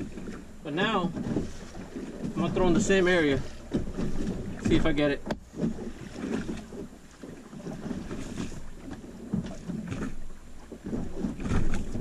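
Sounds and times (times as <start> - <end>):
water slapping against boat hull: 0.0 - 12.0
wind buffeting microphone: 0.0 - 12.0.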